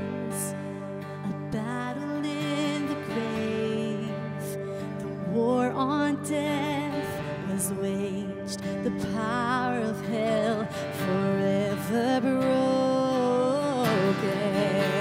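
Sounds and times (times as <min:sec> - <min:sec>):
strummed acoustic guitar: 0:00.0 - 0:15.0
woman singing long held notes: 0:00.0 - 0:15.0.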